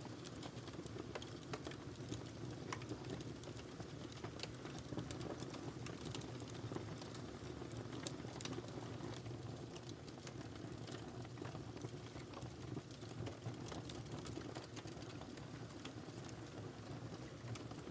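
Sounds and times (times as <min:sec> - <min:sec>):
wood fire crackling and popping: 0:00.0 - 0:17.9.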